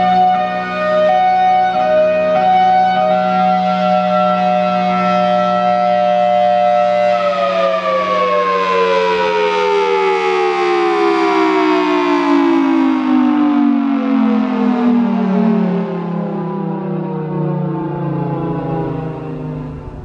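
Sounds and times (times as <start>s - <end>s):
warning siren winding down: 0.0s - 20.0s.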